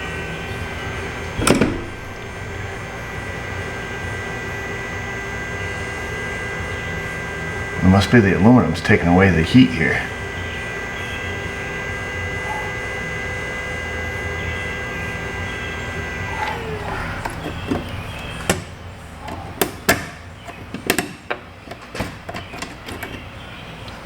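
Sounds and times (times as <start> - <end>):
heating tool whine: 0.0 - 22.2.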